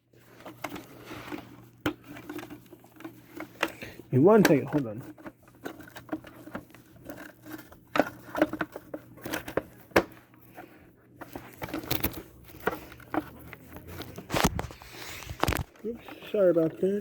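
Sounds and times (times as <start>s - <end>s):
plastic parts clicking and knocking: 0.4s - 10.2s, 11.2s - 17.0s.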